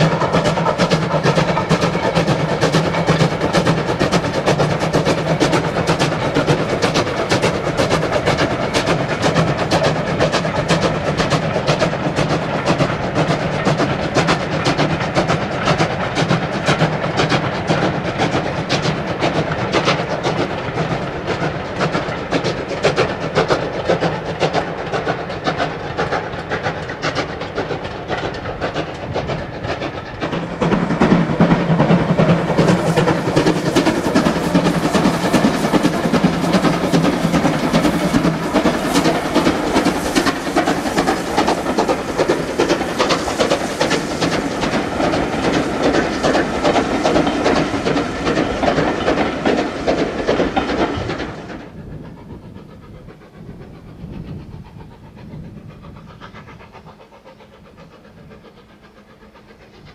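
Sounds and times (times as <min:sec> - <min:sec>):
steam locomotive exhaust beat: 0:00.0 - 0:59.9.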